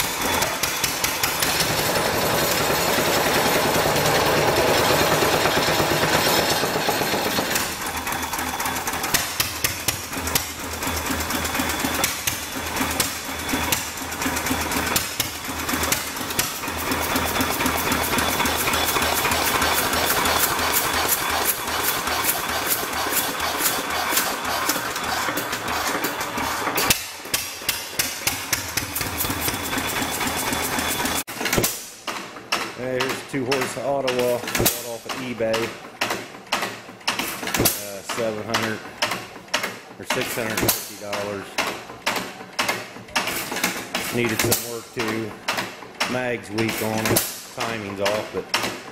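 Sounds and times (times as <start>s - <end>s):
stationary gas engine running: 0.0s - 48.9s.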